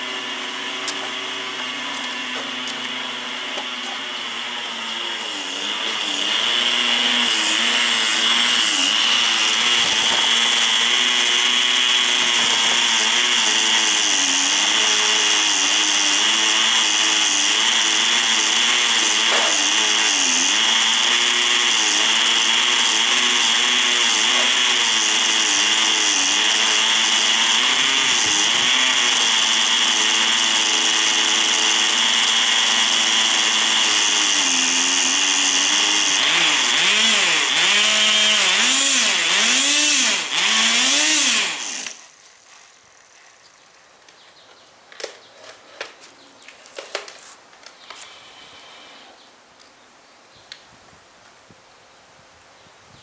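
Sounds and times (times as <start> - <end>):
small engine revving: 0.0 - 43.2.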